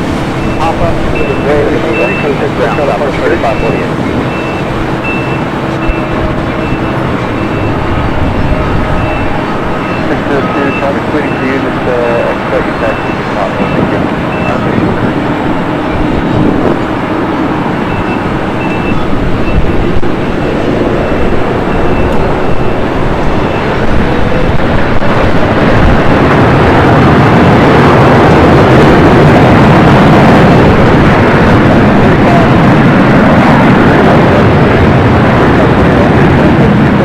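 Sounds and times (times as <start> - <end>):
large vehicle rumbling: 0.0 - 37.0.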